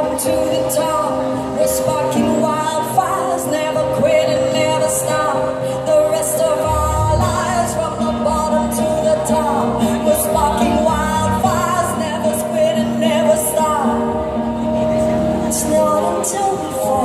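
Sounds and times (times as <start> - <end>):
pop song with singer: 0.0 - 17.0.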